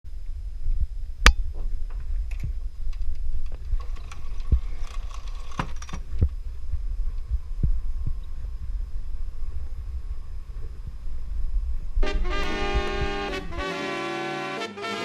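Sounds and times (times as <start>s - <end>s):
low rumble: 0.1s - 5.1s, 6.0s - 13.8s.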